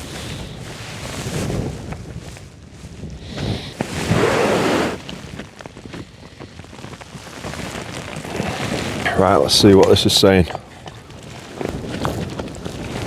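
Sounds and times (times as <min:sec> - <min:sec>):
strong gusty wind: 0:00.0 - 0:13.0.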